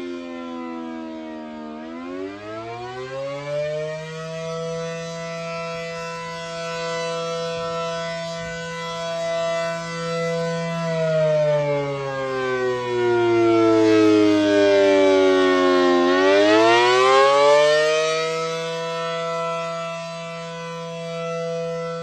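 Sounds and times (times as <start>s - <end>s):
warning siren two-note chord: 0.0s - 22.0s.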